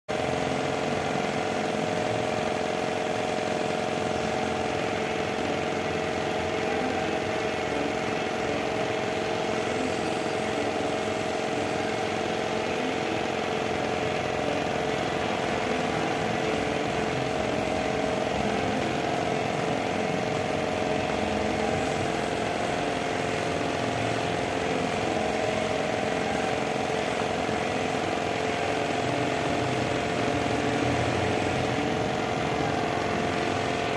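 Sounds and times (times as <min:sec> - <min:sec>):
motor hum: 0:00.1 - 0:33.9.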